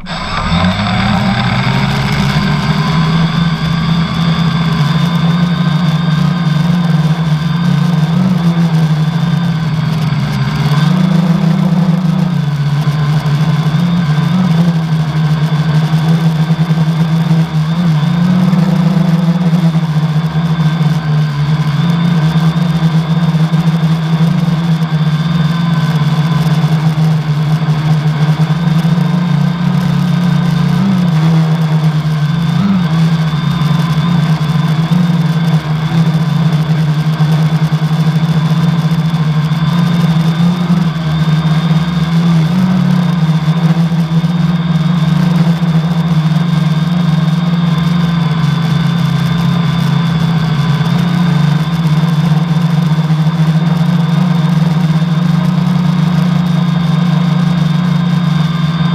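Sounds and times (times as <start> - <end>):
high motor whine: 0.0 - 58.9
quadcopter motors droning: 0.0 - 58.9.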